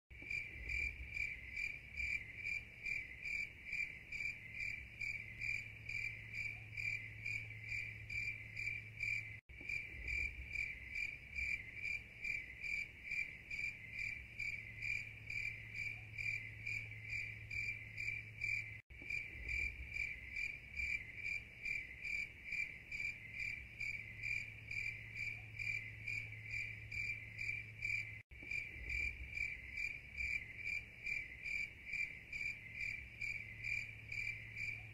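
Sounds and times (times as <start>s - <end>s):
insects chirping: 0.2s - 34.9s.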